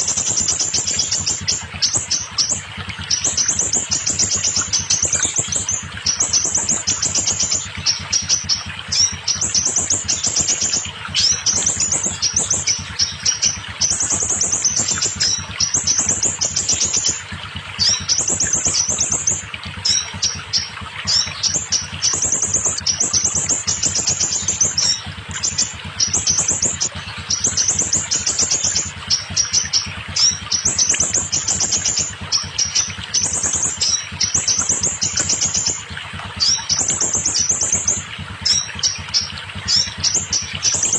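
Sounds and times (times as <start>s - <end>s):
bird chirping trills: 0.0s - 40.9s.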